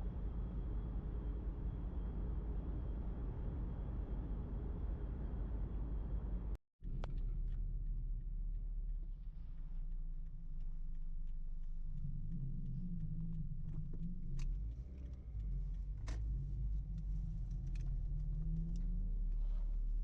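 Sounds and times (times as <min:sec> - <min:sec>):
low vehicle rumble: 0:02.2 - 0:20.0.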